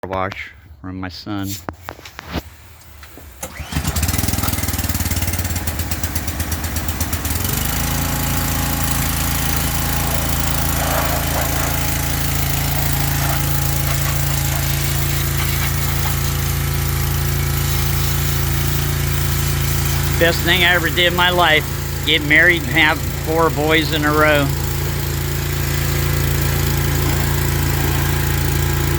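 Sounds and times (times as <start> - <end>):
engine starting and running: 3.3 - 28.9.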